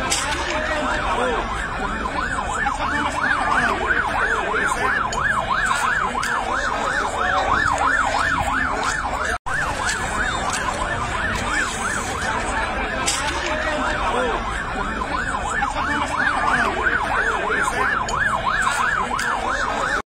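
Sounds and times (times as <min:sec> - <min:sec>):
siren in fast yelp: 0:00.4 - 0:20.0.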